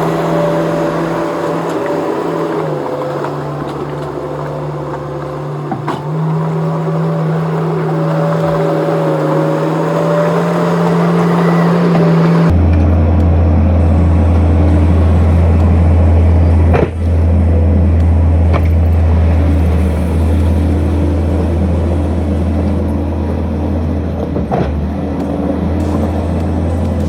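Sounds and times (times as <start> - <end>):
skid steer engine running: 0.0 - 27.0.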